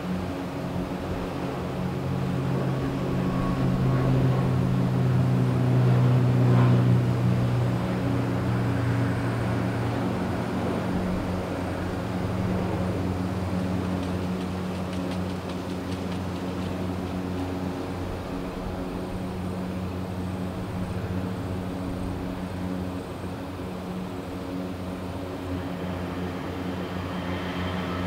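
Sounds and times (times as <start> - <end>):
jet engines droning: 0.0 - 28.0.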